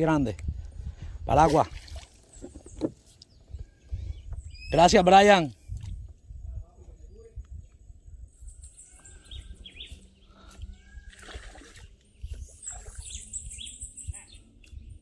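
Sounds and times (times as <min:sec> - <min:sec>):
birds chirping and calling: 0:01.8 - 0:06.2, 0:06.8 - 0:15.0.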